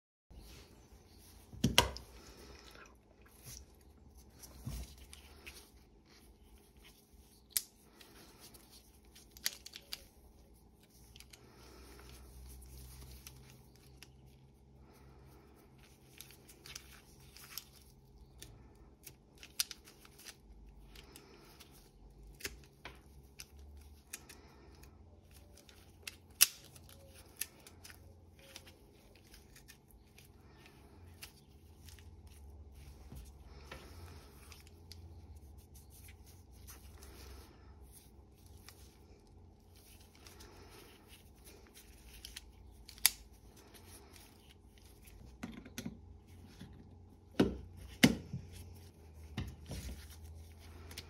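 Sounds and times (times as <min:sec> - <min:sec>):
rustling and handling: 0:00.3 - 0:51.0.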